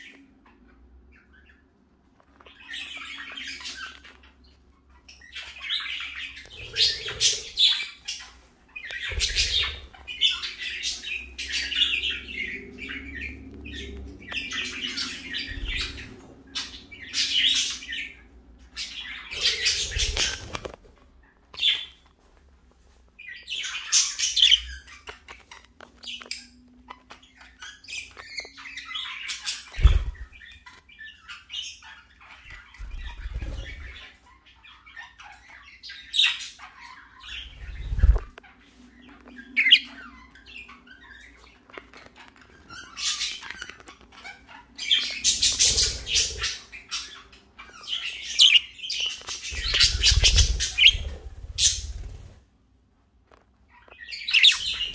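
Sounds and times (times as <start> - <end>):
budgerigars chirping: 2.3 - 22.0, 23.2 - 52.4, 53.7 - 54.9.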